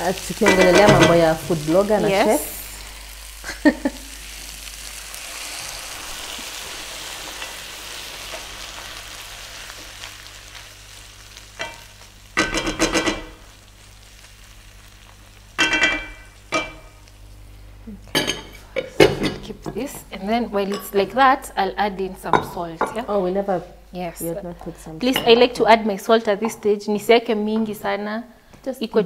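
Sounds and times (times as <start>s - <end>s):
food sizzling in a pan: 0.0s - 24.4s.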